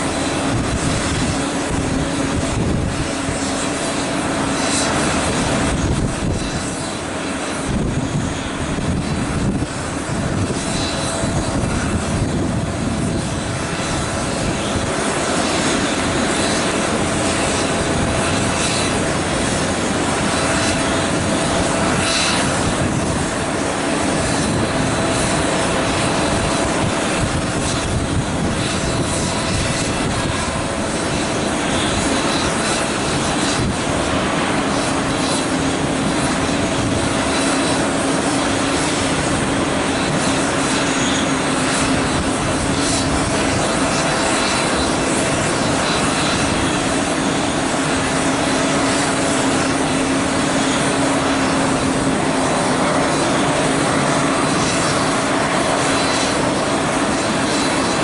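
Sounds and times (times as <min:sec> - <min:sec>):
jet aircraft rumble and hiss: 0:00.0 - 0:58.0
steady hum: 0:00.0 - 0:58.0.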